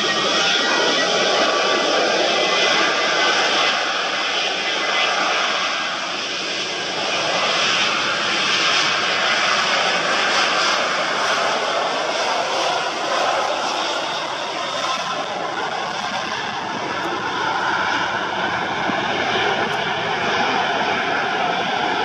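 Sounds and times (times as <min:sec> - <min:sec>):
jet engines rushing with whine: 0:00.0 - 0:22.0.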